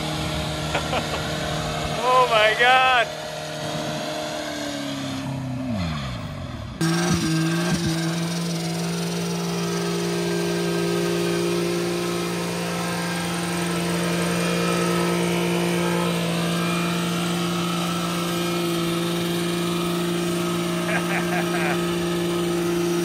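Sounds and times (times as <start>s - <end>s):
car engine revving high: 0.0s - 23.0s.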